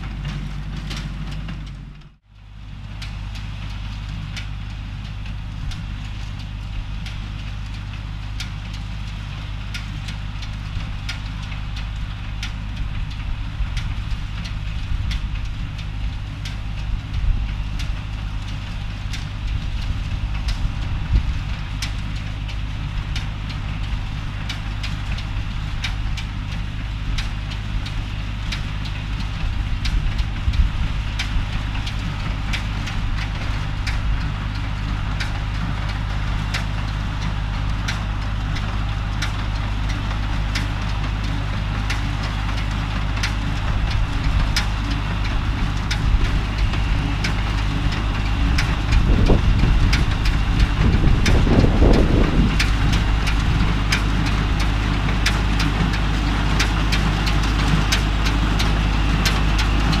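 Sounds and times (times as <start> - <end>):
tractor engine running: 0.0 - 60.0
hay baler clacking: 3.0 - 60.0.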